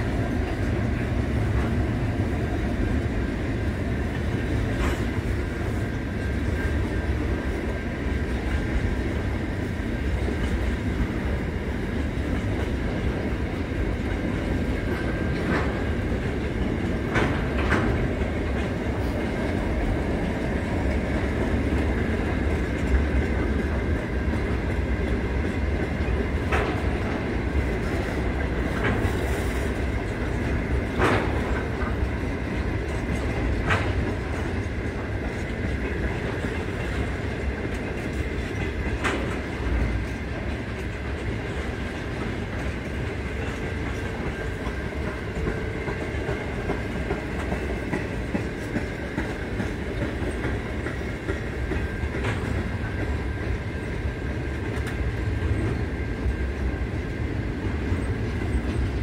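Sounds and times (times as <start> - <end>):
freight train rumbling past: 0.0 - 59.0
wheels clacking over rail joints: 0.0 - 59.0.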